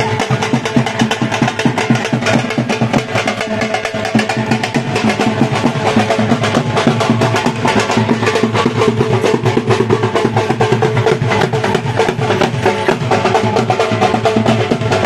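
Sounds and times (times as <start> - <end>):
drum beaten in fast rhythm: 0.0 - 15.0.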